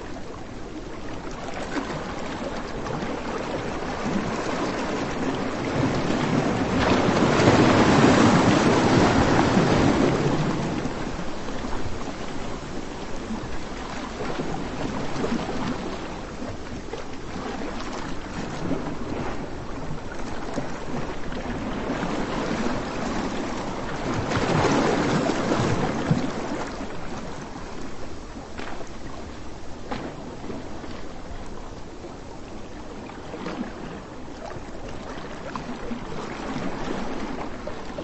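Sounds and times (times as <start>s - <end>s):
waves breaking on beach: 0.0s - 38.0s.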